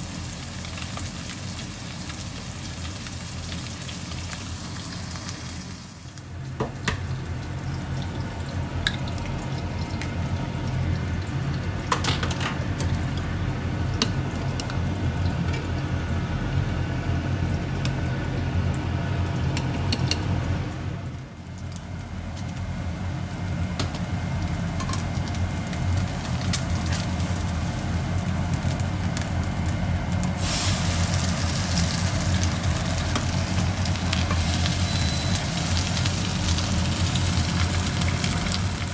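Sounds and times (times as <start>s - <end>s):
food sizzling in frying pan: 0.0s - 38.9s.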